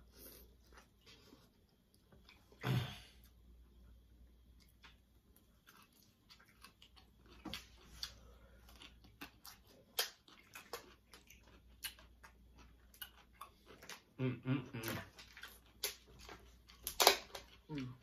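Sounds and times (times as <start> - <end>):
people chewing and crunching: 0.0 - 18.0.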